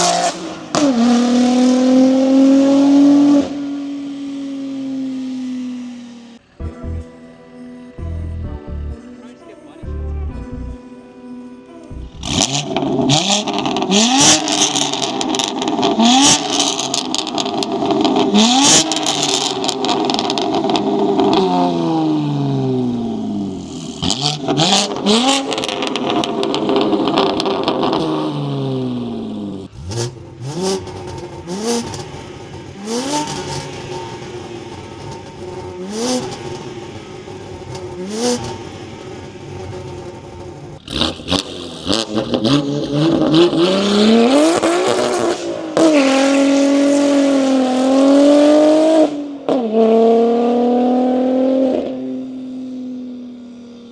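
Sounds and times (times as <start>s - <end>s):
car engine revving: 0.0s - 7.1s, 11.9s - 53.9s.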